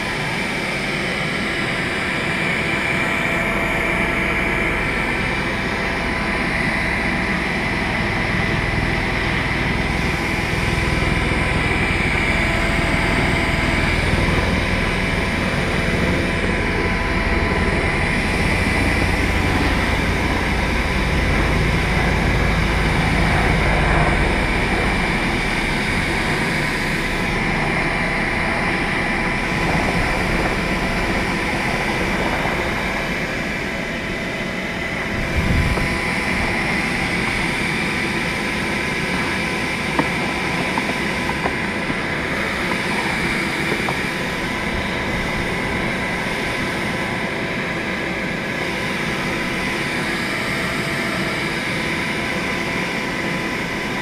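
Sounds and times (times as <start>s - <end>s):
vacuum whining: 0.0s - 54.0s.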